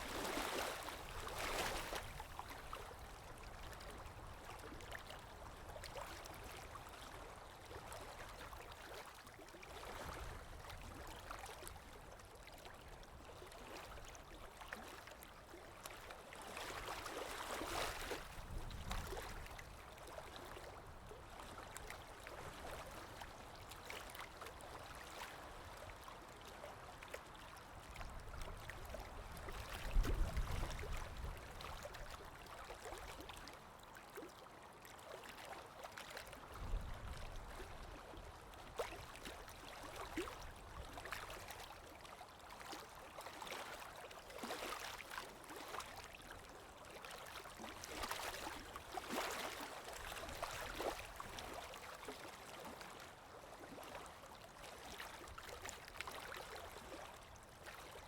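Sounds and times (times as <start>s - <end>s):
water lapping: 0.0s - 58.0s.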